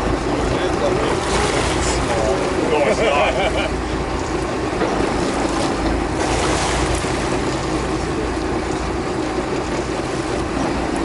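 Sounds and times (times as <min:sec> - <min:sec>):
boat engine droning: 0:00.0 - 0:11.0
water noise: 0:00.0 - 0:11.0
wind: 0:00.0 - 0:11.0.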